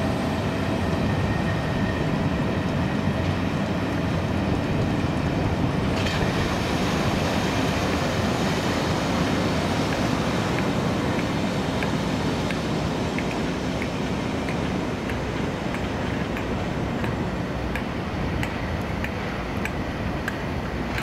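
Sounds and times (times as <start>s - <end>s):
train rumbling with light ticking: 0.0s - 21.0s.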